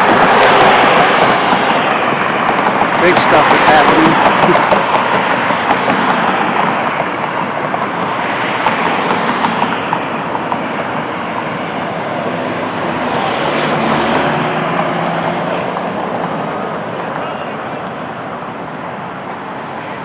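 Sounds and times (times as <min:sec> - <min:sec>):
road traffic passing: 0:00.0 - 0:20.0
vehicle engine hum: 0:00.0 - 0:20.0.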